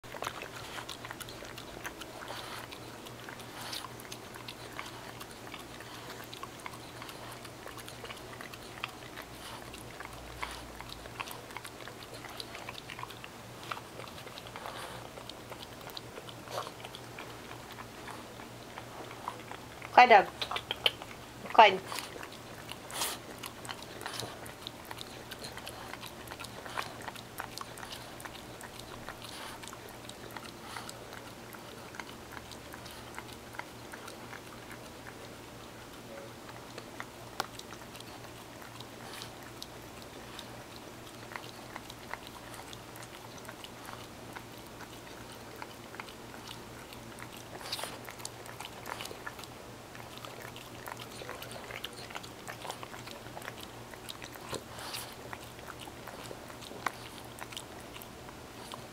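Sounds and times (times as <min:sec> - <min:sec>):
dog licking and lip smacking: 0:00.0 - 0:58.9.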